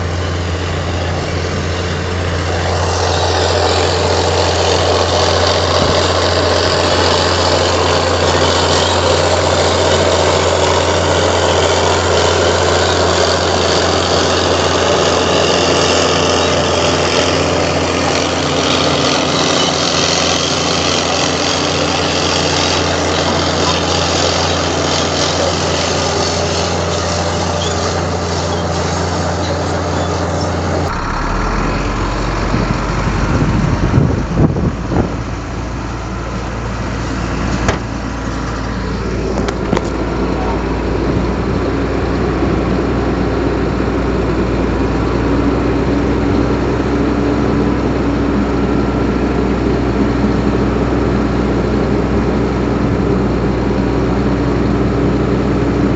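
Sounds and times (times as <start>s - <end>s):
diesel machinery engine running: 0.0s - 55.9s.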